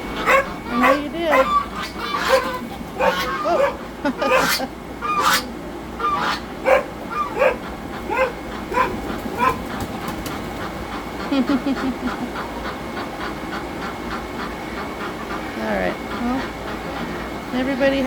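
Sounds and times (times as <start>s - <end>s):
ducks and geese calling: 0.0s - 18.0s
ducks quacking: 0.0s - 18.0s.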